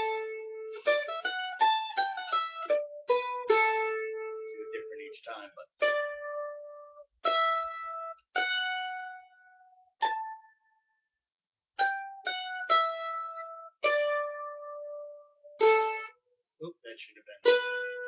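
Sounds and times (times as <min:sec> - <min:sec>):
mandolin notes picked slowly: 0:00.0 - 0:10.9, 0:11.8 - 0:16.2, 0:17.3 - 0:18.0.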